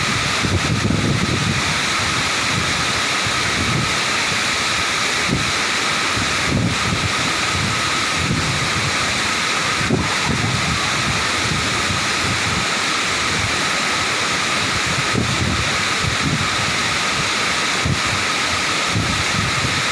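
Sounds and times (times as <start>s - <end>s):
wind buffeting microphone: 0.0s - 4.0s, 5.2s - 13.8s, 14.5s - 19.9s
waterfall rushing: 0.0s - 19.9s.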